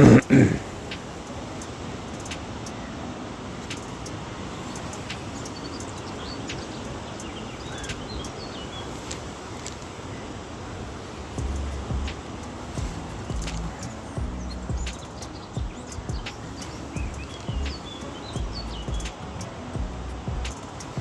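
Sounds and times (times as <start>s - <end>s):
steady rushing noise: 0.0s - 21.0s
faint bird chirps: 1.6s - 10.5s, 11.1s - 21.0s.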